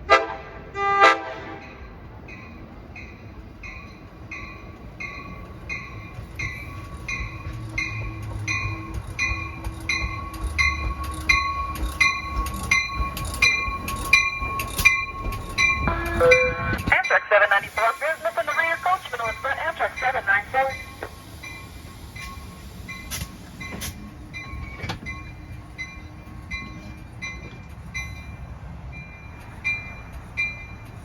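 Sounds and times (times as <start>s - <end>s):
low train rumble: 0.0s - 31.0s
train bell ringing: 1.6s - 31.0s.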